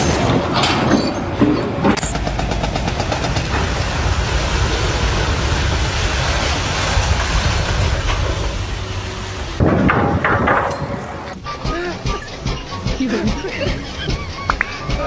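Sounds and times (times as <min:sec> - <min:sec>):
heavy vehicle rumbling: 0:00.0 - 0:15.0.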